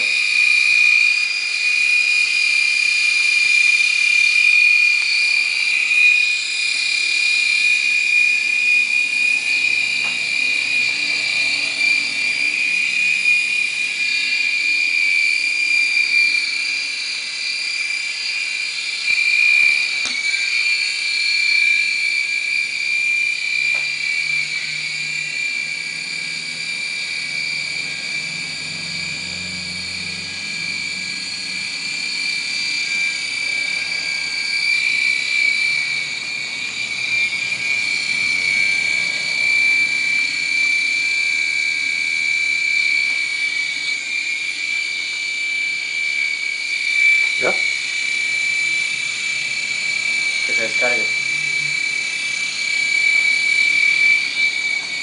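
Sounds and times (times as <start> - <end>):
toy helicopter motor whine: 0.0 - 55.0.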